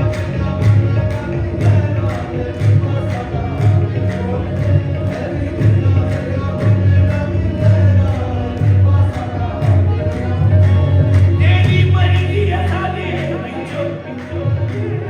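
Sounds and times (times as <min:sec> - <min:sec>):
deep pulsing bass line: 0:00.0 - 0:13.6
group singing: 0:00.0 - 0:15.0
steady percussion beat: 0:00.0 - 0:15.0.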